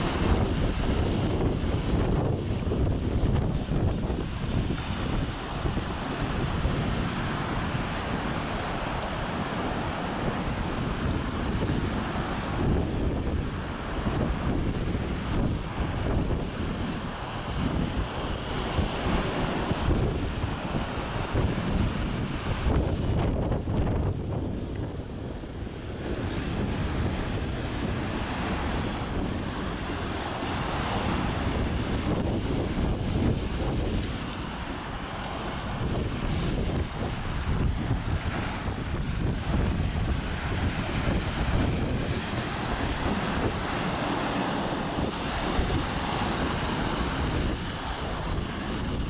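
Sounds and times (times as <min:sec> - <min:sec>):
sea surf: 0:00.0 - 0:49.0
small waves breaking: 0:00.0 - 0:49.0
wind buffeting microphone: 0:00.0 - 0:49.0.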